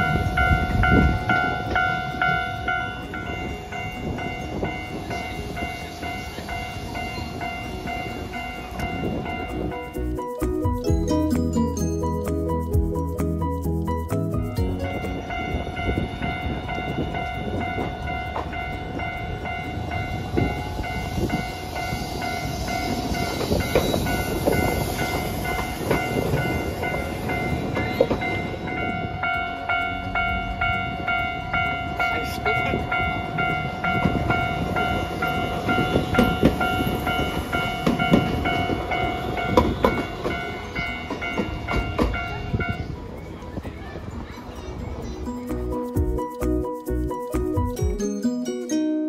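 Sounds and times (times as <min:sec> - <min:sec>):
tram rumbling on track: 0:00.0 - 0:48.1.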